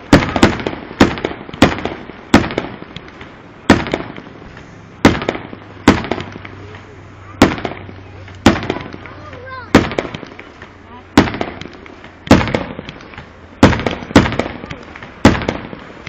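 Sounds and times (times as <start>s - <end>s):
fireworks shells bursting: 0.0s - 16.0s.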